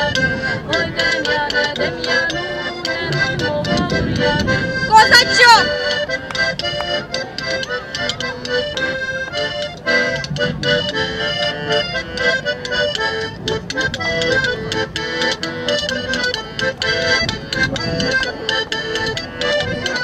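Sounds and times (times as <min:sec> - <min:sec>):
accordion folk dance tune: 0:00.0 - 0:20.0.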